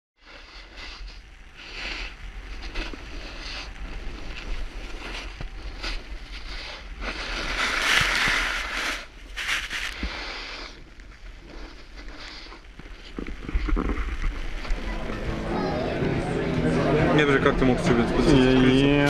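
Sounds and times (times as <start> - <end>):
snowboard sliding through snow: 0.2 - 16.0
wind rumbling on microphone: 0.2 - 16.0.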